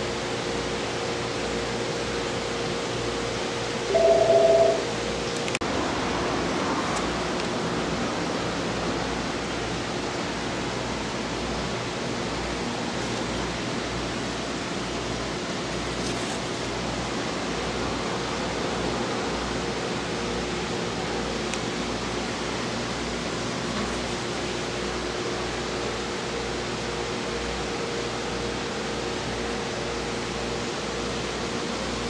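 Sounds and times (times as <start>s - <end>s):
room noise hiss: 0.0s - 32.0s.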